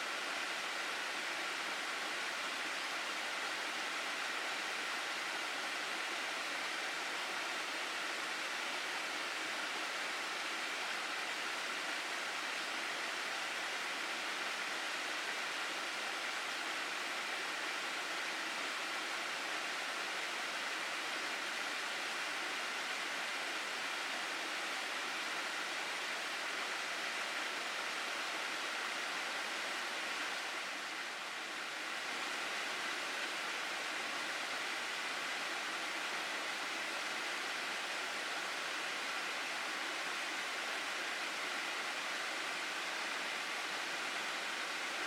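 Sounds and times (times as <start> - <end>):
flowing stream water: 0.0 - 45.0.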